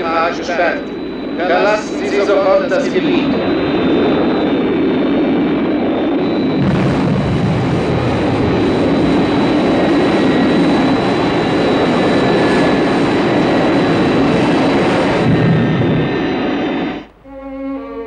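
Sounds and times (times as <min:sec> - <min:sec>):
jet engine roar with whine: 0:00.0 - 0:18.0.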